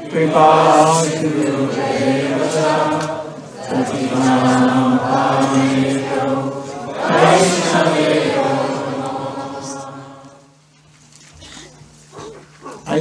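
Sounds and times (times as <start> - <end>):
group chanting in unison: 0.0 - 10.5.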